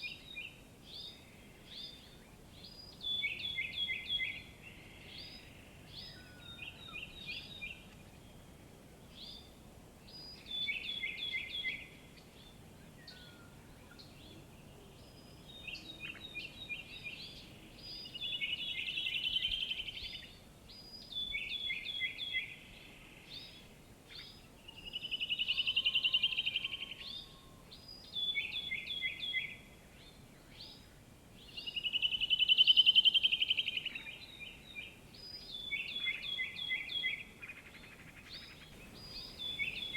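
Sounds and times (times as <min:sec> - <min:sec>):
birds chirping: 0:00.0 - 0:39.9
faint background hiss: 0:00.0 - 0:39.9.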